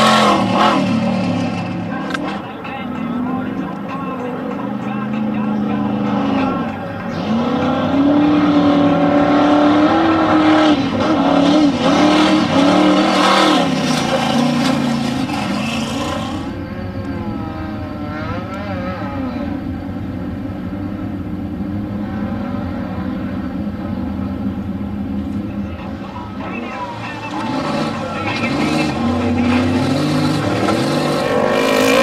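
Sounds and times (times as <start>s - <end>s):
distant engine running: 0.0s - 32.0s
truck engines revving: 0.0s - 32.0s.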